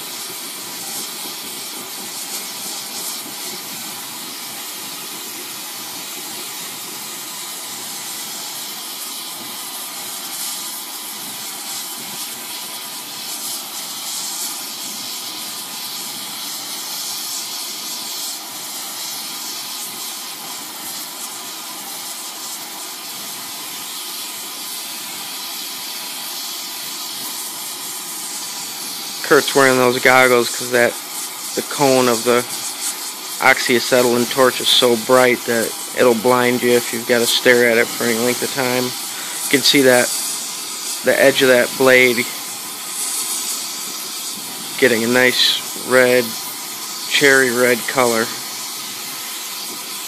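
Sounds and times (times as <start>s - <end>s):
torch flame hissing: 0.0s - 50.0s.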